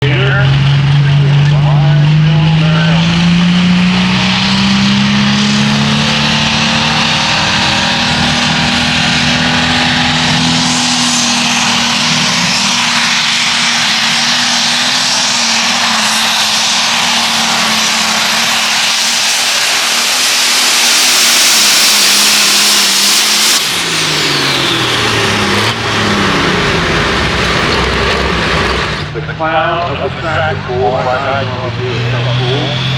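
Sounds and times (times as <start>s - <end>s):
tractor engine at high revs: 0.0s - 32.9s.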